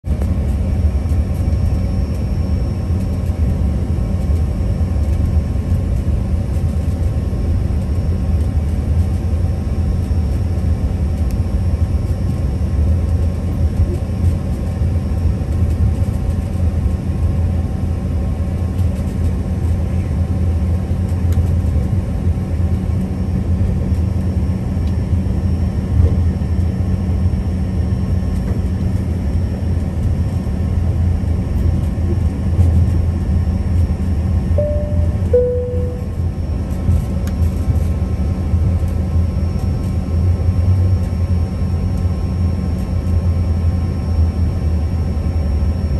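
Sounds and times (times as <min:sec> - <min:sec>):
aircraft cabin drone: 0:00.1 - 0:45.9
faint whining turbofan tones: 0:00.1 - 0:45.9.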